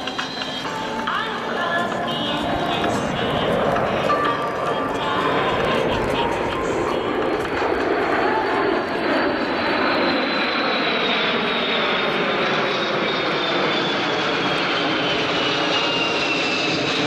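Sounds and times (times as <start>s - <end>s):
jet aircraft flying over: 0.0s - 17.0s.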